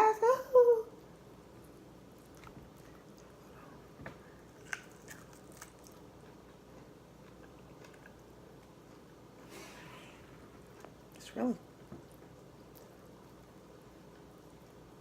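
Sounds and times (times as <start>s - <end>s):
quiet chewing: 1.5s - 9.8s, 10.4s - 15.0s.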